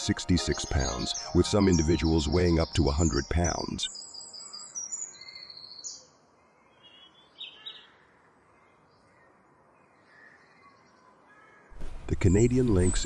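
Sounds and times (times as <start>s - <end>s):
faint bird chirps: 0.4s - 13.0s.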